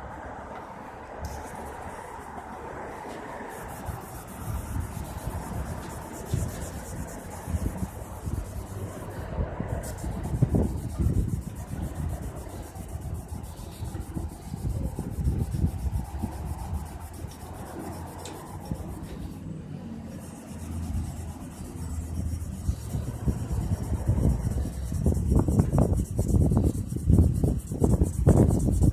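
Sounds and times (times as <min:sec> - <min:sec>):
sandpaper rubbing metal: 0:01.2 - 0:28.9.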